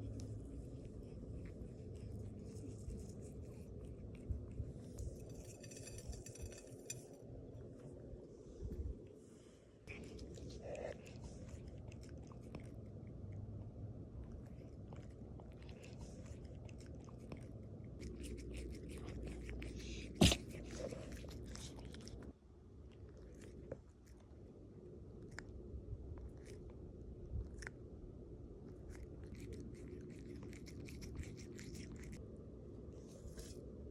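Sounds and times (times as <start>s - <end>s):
cat chewing with crunching clicks: 0.0s - 6.6s, 9.8s - 32.2s.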